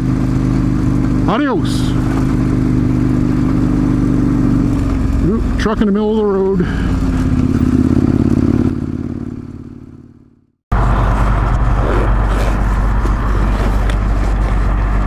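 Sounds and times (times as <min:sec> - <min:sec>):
loud engine drone with rushing: 0:00.0 - 0:15.0
motorcycle engine running: 0:00.0 - 0:15.0.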